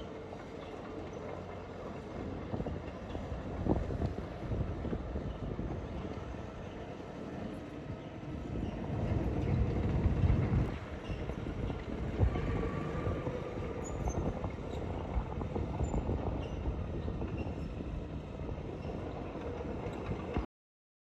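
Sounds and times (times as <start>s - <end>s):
bulldozer running: 0.0s - 20.4s.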